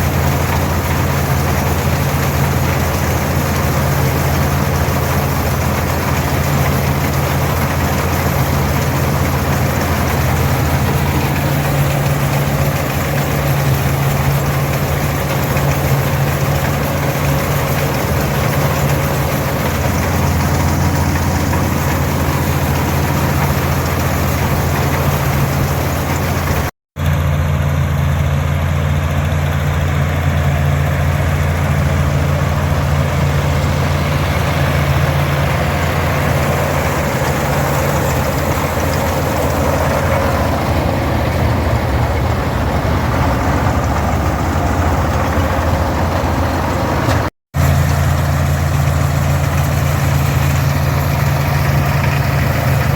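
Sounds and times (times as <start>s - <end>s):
combine machinery clatter: 0.0s - 52.9s
tractor diesel engine running: 0.0s - 52.9s.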